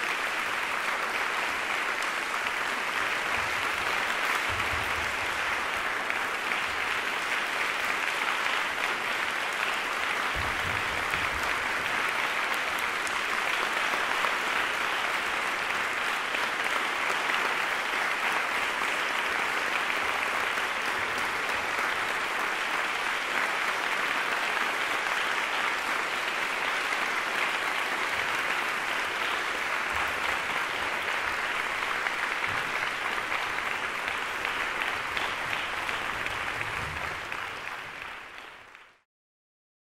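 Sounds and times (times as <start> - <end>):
audience applause: 0.0 - 39.0
percussionists clapping along: 0.0 - 39.0.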